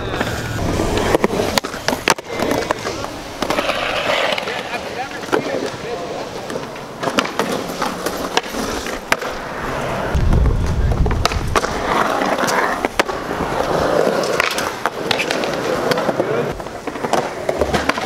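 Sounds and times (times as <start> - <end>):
skateboard clacking down: 0.0 - 18.0
skateboard trucks grinding on concrete: 0.0 - 18.0
skateboard wheels rolling on concrete: 0.0 - 18.0.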